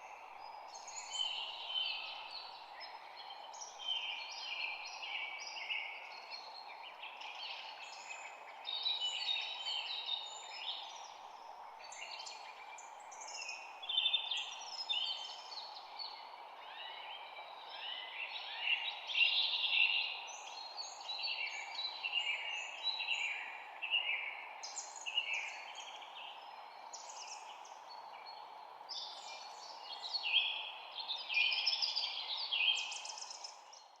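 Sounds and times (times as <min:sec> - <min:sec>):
songbirds chirping and singing: 0:00.0 - 0:34.0.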